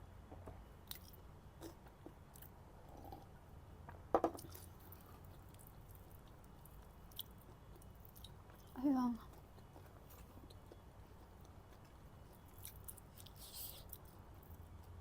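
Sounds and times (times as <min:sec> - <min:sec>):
person chewing food: 0:00.9 - 0:03.3, 0:04.4 - 0:15.0.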